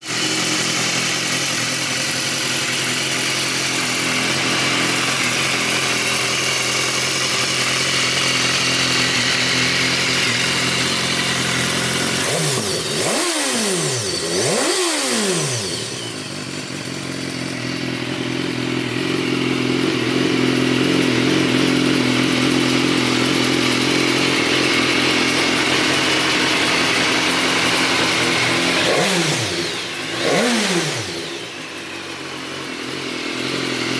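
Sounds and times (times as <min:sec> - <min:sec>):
motorcycle engine idling: 0:00.0 - 0:33.9
motorcycle engine revving: 0:00.0 - 0:33.9.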